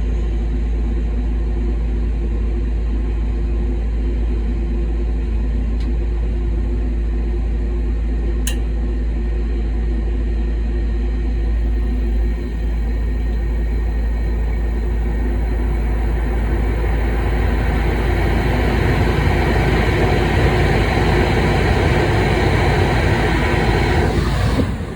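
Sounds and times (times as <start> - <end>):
furnace blower motor running: 3.0 - 24.9.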